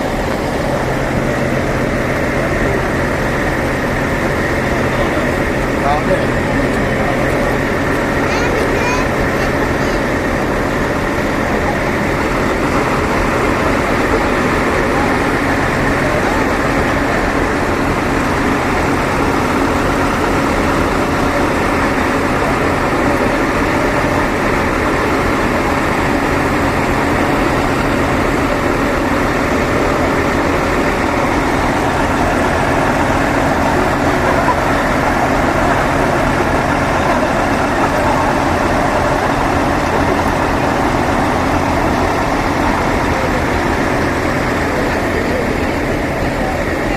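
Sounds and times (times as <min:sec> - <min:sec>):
crowd voices: 0:00.0 - 0:46.9
truck engines idling: 0:00.0 - 0:46.9.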